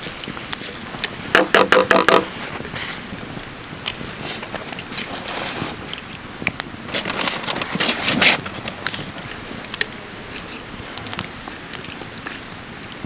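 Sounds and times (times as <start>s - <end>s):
wood campfire crackling: 0.0s - 13.0s.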